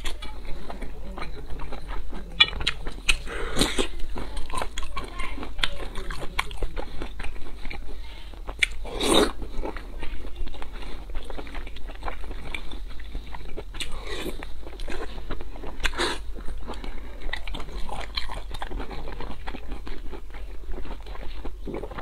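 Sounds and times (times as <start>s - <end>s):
wet chewing mouth clicks: 0.0s - 22.0s.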